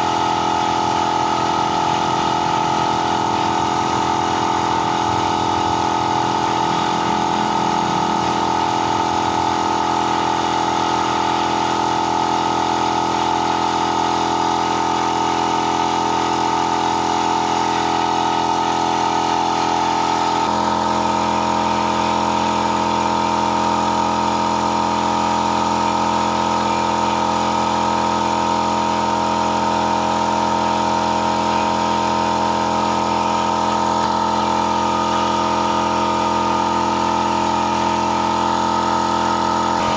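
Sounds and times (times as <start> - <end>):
machine humming: 0.0 - 39.9.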